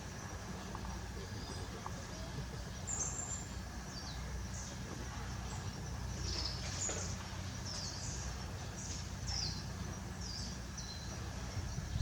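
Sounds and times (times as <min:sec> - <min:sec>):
low background rumble: 0:00.0 - 0:12.0
small birds chirping: 0:00.1 - 0:12.0.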